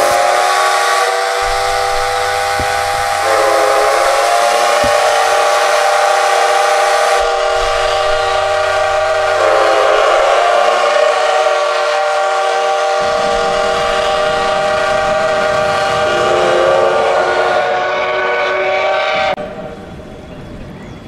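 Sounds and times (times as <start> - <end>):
steam locomotive whistle: 0.0 - 19.9.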